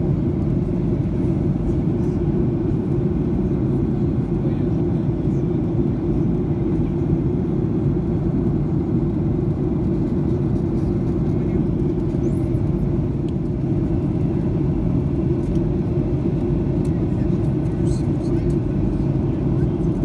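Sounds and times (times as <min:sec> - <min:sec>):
jet cabin engine roar: 0:00.0 - 0:20.0.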